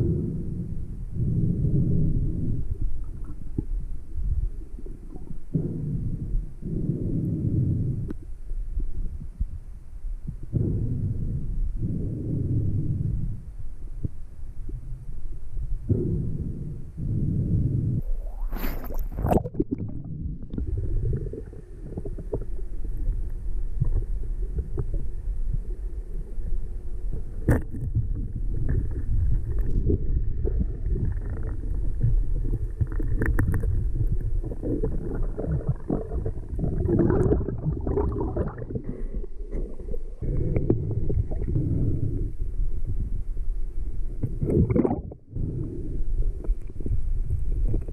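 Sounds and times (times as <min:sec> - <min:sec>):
underwater rumble and gurgling: 0:00.0 - 0:47.9.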